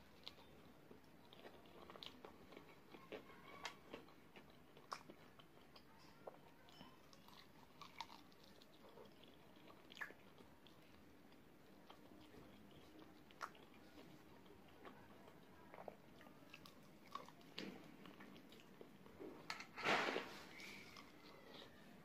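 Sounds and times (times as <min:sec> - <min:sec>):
wet chewing and smacks: 0:00.1 - 0:19.1.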